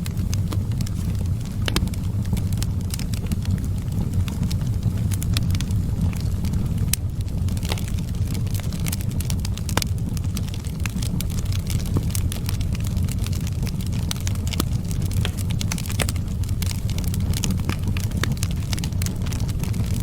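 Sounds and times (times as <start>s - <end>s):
fire crackling in fireplace: 0.0s - 20.0s.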